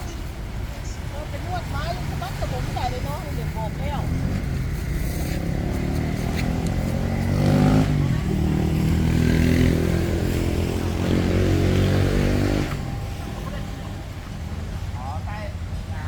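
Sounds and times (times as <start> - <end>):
traffic vehicle engines: 0.0 - 16.0.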